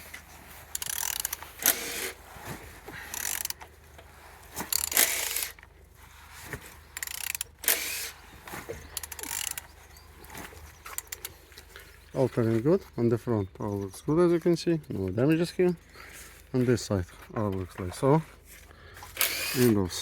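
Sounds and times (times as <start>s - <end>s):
engine clicking being cranked: 0.0s - 2.2s, 3.0s - 5.8s, 6.6s - 18.2s, 18.9s - 20.0s.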